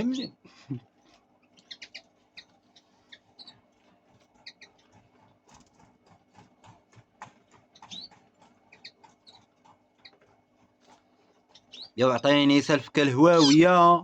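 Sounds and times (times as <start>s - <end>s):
birds chirping and squeaking: 0.0s - 14.0s.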